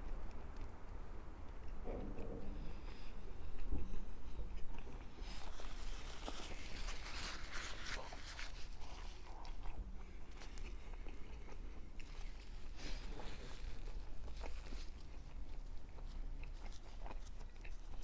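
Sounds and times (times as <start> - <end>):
wet chewing with crisp crackles: 0.0 - 18.0.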